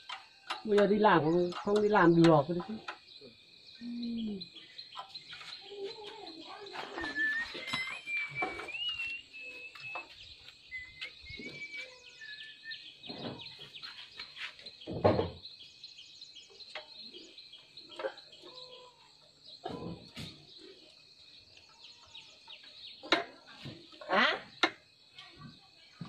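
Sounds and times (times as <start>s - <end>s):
insect hiss: 0.0s - 26.0s
small birds chirping: 0.0s - 26.0s.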